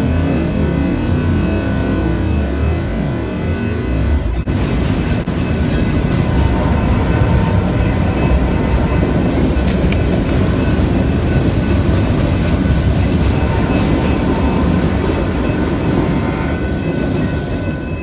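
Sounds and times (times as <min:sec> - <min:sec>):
high ringing tones: 0:00.0 - 0:18.0
train wheels rumbling on rails: 0:00.0 - 0:18.0.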